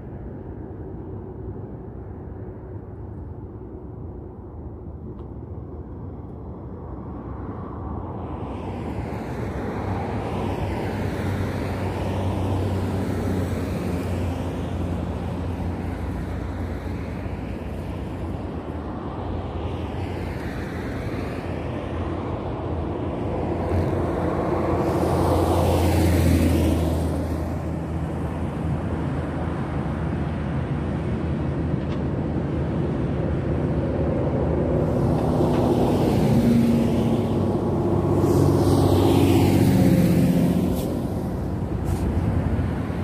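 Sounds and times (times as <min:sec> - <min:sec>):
steady low traffic noise: 0:00.0 - 0:43.0
vehicle passing close by: 0:08.2 - 0:43.0.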